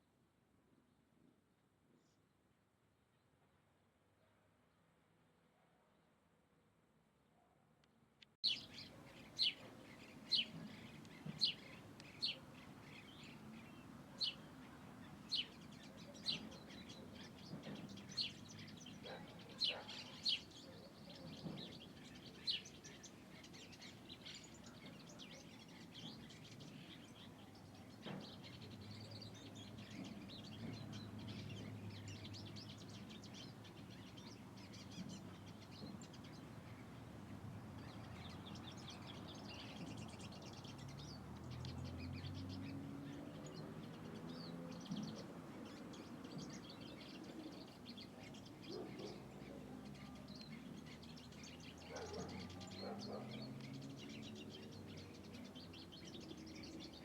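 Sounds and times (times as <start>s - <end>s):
small birds chirping: 8.4s - 57.0s.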